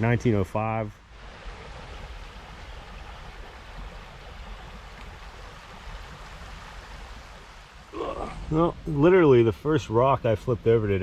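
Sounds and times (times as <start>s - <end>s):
flowing creek rushing: 0.0s - 11.0s.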